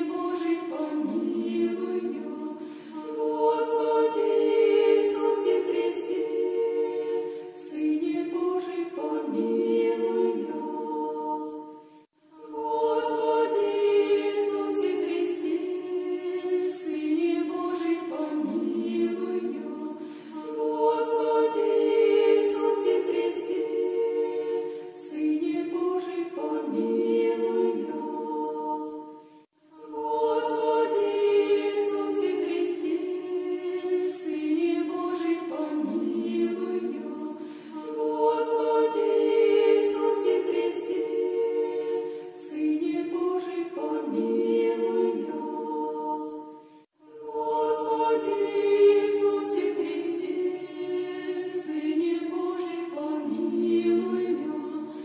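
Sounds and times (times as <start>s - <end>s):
choir chanting a cappella: 0.0s - 55.0s.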